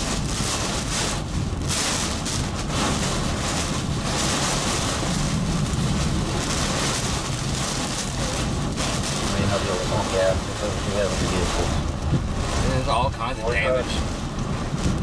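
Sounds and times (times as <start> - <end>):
gusting storm wind: 0.0 - 15.0
steady low rumble: 0.0 - 15.0
torrential rain: 0.0 - 15.0.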